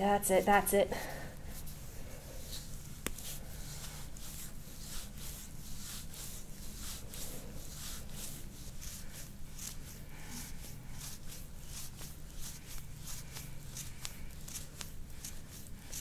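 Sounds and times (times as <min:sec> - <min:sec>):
steady low hum: 0:00.0 - 0:16.0
hands rubbing skin: 0:00.2 - 0:16.0.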